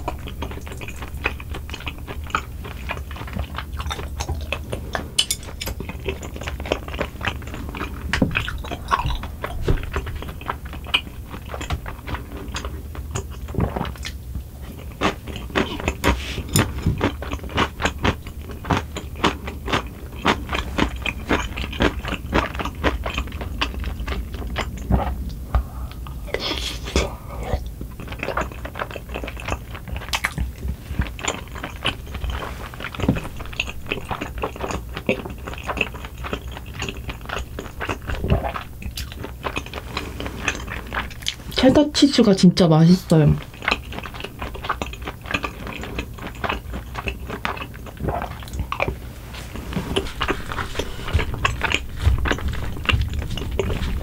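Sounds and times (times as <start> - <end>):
wet chewing and smacking: 0.0 - 54.0.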